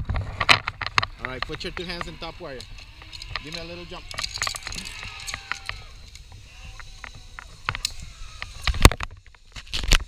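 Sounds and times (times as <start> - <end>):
zipline trolley whirring on cable: 0.1 - 10.0
clips clicking and knocking: 0.4 - 9.0.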